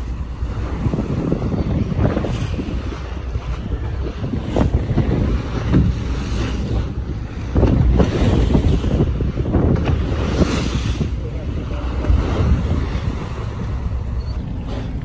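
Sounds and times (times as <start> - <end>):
waves washing against hull: 0.0 - 15.0
wind buffeting microphone: 0.0 - 15.0.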